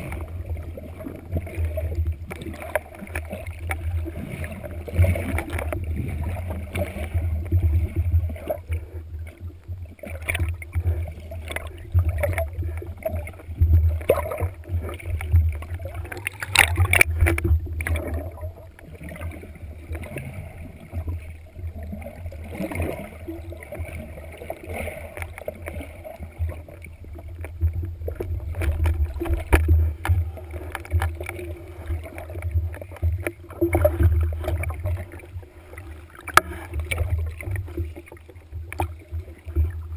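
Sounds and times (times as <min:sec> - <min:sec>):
underwater rumble: 0:00.0 - 0:39.9.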